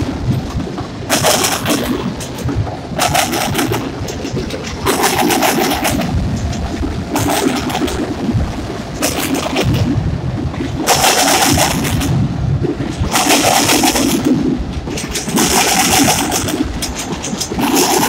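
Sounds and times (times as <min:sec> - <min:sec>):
freight train rumbling past: 0:00.0 - 0:18.0
hissing wheel and rail noise: 0:00.0 - 0:18.0.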